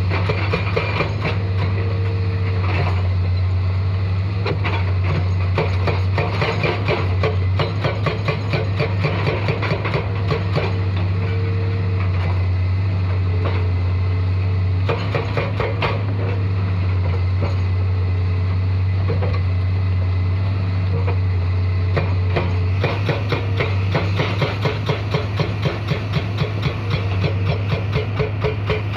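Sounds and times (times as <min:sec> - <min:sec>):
excavator diesel engine droning: 0:00.0 - 0:28.9.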